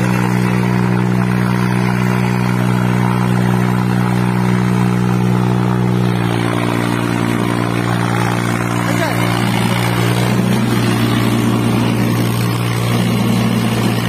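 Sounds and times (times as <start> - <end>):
tractor diesel engines under load: 0.0 - 14.0.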